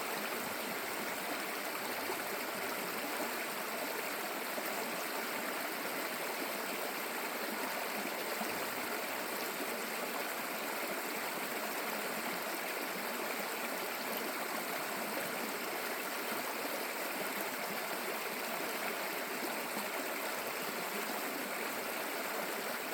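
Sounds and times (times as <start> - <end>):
stream gurgling over rocks: 0.0 - 22.9.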